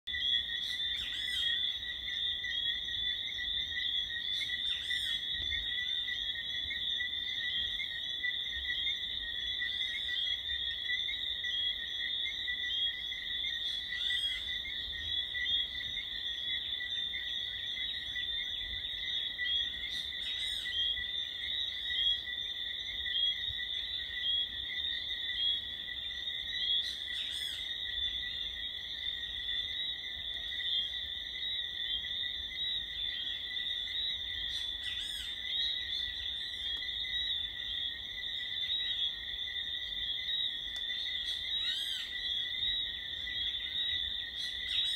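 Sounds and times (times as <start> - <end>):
chorus of whistling frogs: 0.1 - 44.9
loud frog chirps: 0.1 - 44.9.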